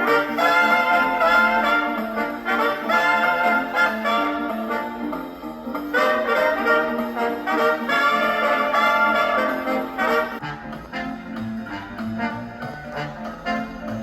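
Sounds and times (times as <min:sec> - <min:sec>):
brass band jazz record playing: 0:00.0 - 0:14.0.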